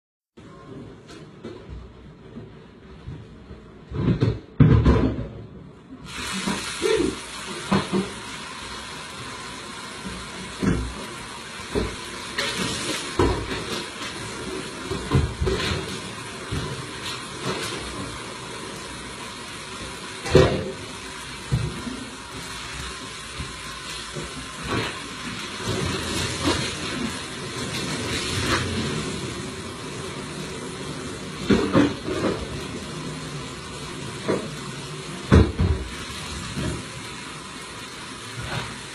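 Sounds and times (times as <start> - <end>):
steady hiss: 6.0 - 38.9
water splashing and running: 6.1 - 38.9.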